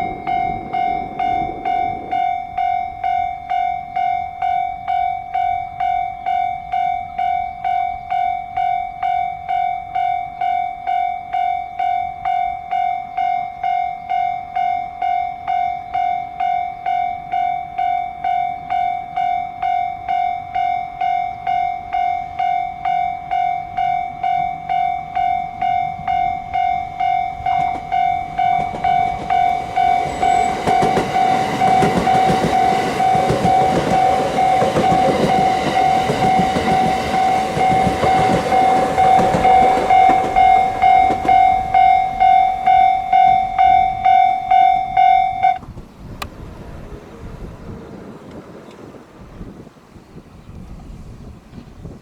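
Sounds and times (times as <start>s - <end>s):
level crossing warning bell: 0.0s - 45.7s
train passing: 0.0s - 51.5s.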